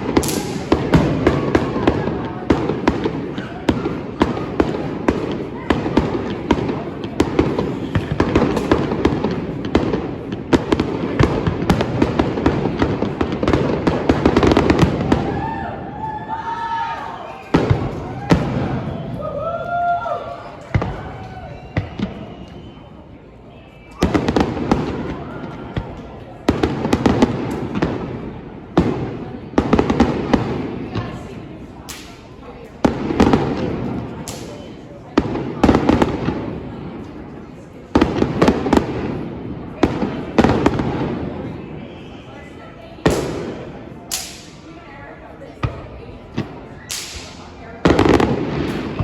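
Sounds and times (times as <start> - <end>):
fireworks bangs and crackling: 0.0 - 16.3, 17.3 - 49.0.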